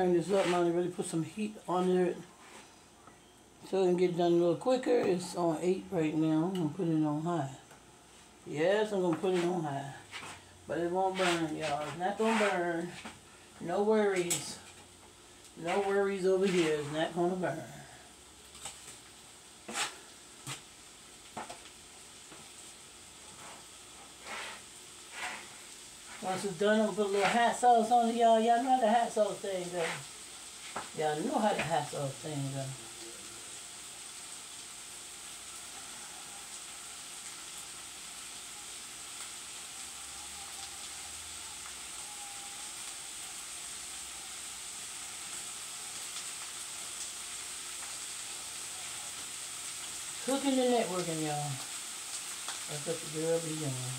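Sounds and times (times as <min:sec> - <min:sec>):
food sizzling in a skillet: 0:00.0 - 0:53.9
faint crackles: 0:06.4 - 0:53.9.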